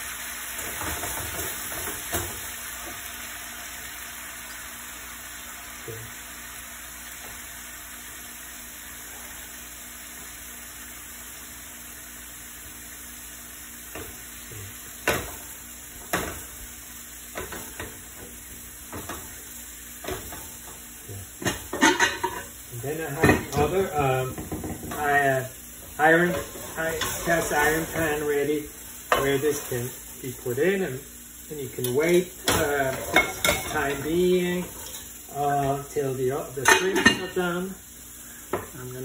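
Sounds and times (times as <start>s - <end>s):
fish sizzling in a frying pan: 0.0s - 39.0s.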